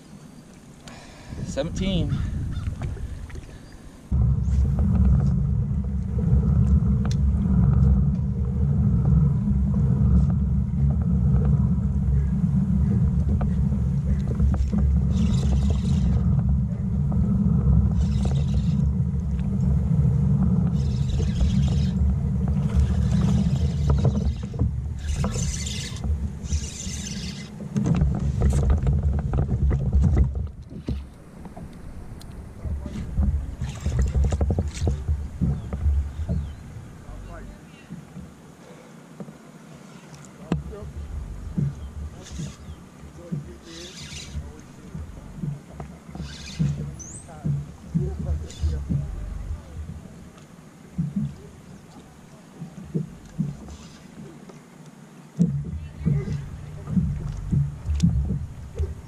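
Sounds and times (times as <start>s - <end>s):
wind buffeting microphone: 1.2s - 38.6s, 40.4s - 54.4s, 55.3s - 59.0s.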